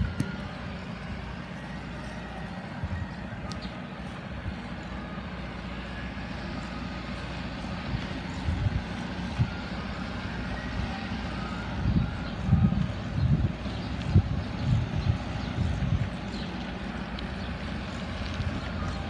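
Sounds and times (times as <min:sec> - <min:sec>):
wind buffeting microphone: 0:00.0 - 0:19.0
bicycle tyre rumble on asphalt: 0:02.7 - 0:19.0.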